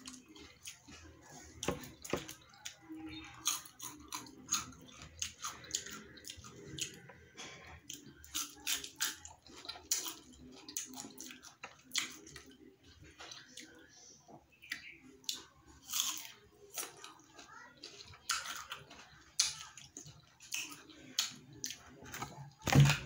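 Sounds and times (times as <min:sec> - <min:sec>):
crunching bites and chewing: 0:00.0 - 0:12.6, 0:14.7 - 0:17.2, 0:18.0 - 0:23.0.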